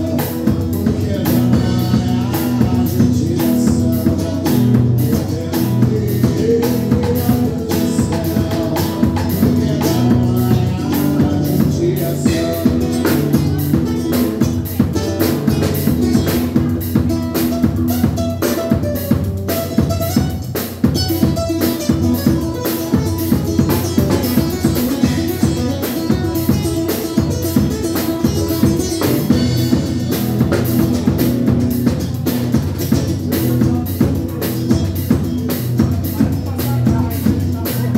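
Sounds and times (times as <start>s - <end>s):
drum kit beat: 0.0s - 37.9s
sustained guitar notes: 0.0s - 37.9s.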